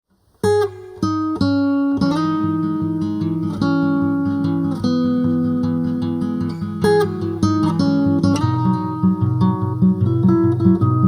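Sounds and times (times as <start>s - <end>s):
plucked guitar notes: 0.4s - 11.0s.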